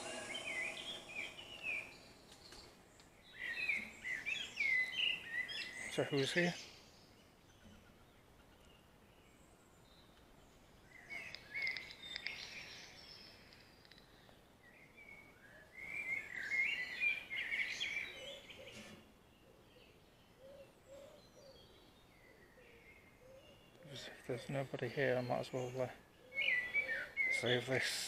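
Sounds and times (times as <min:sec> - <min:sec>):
birds singing: 0:00.0 - 0:28.0
faint outdoor background: 0:00.0 - 0:28.0.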